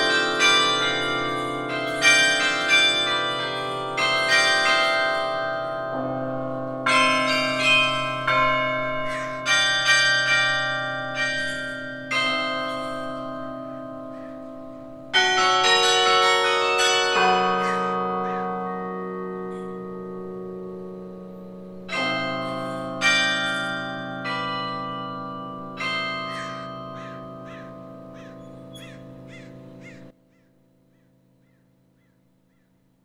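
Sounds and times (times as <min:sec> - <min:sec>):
carillon bells playing chords: 0:00.0 - 0:30.2
low bell: 0:00.0 - 0:30.2.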